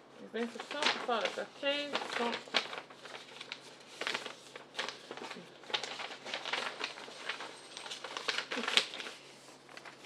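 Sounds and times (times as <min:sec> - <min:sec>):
packaging crinkling and rustling: 0:00.3 - 0:10.0.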